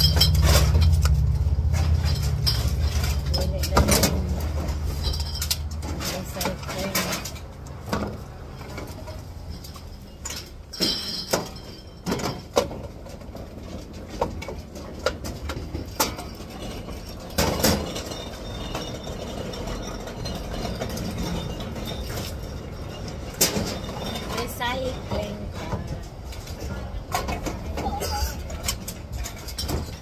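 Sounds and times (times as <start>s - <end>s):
bottles and cans clattering: 0.0s - 30.0s
low background rumble: 0.0s - 30.0s.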